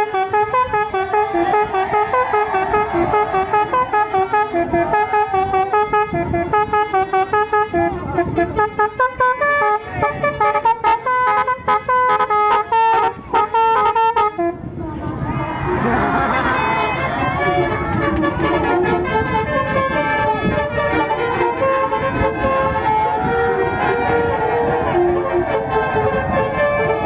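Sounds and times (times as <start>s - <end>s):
musical air horn melody: 0.0s - 14.8s, 16.3s - 27.0s.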